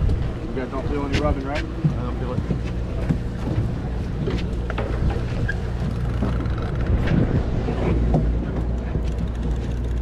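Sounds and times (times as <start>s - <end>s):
boat engine humming: 0.0s - 10.0s
wind on microphone: 0.0s - 10.0s.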